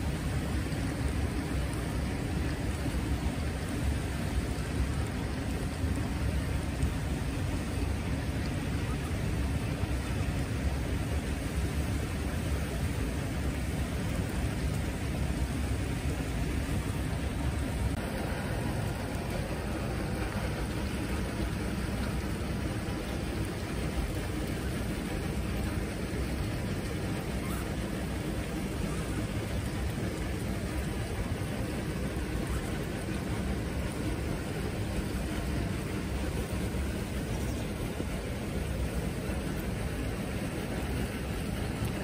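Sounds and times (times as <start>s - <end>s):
flowing water rushing: 0.0s - 42.0s.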